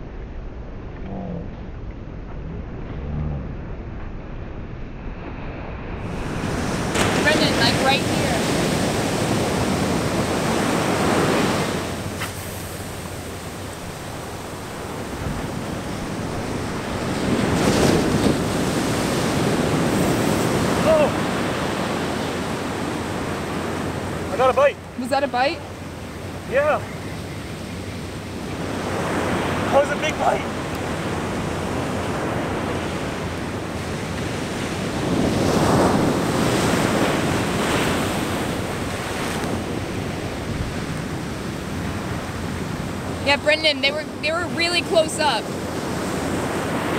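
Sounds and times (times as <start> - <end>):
wind buffeting microphone: 0.0 - 46.9
ocean surf breaking: 4.7 - 46.9.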